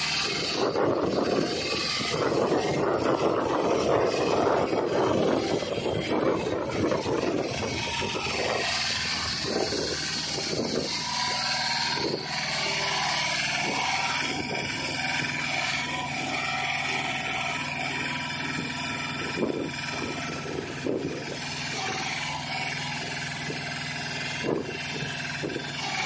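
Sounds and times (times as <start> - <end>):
excavator engine running: 0.0 - 26.0
high whine: 0.0 - 26.0.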